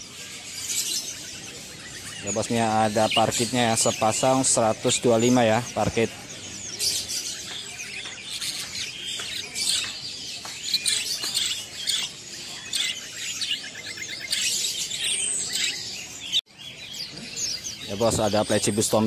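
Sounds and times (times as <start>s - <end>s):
budgerigars chirping: 0.0s - 19.0s.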